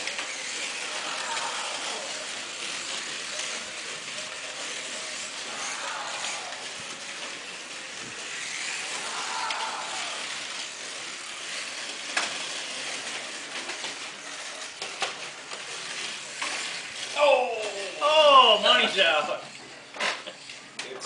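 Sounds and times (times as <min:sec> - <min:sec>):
slot car motors whirring: 0:00.0 - 0:21.0.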